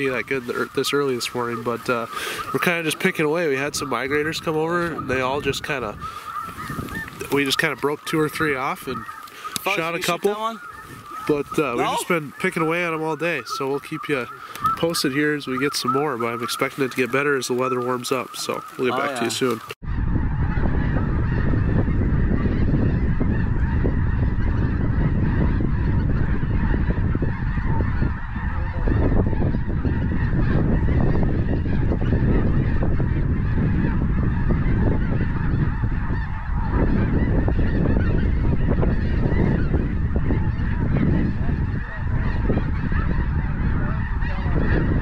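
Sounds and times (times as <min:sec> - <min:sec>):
geese honking in flight: 0:00.0 - 0:45.0.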